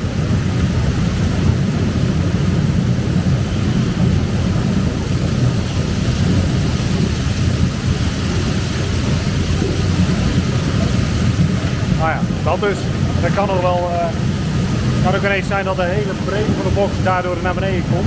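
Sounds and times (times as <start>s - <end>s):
farm machinery running: 0.0s - 18.0s
noisy hiss: 0.0s - 18.0s.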